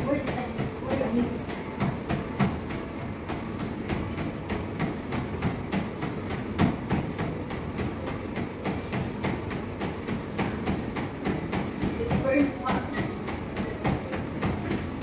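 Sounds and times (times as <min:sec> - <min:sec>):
feet pounding a treadmill: 0:00.0 - 0:15.0
treadmill motor hum: 0:00.0 - 0:15.0.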